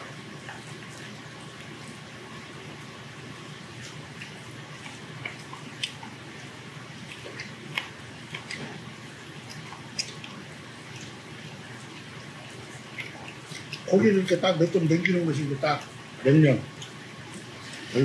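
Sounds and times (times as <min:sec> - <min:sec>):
chewing and wet mouth sounds: 0:00.0 - 0:18.0
steady background hum: 0:00.0 - 0:18.0.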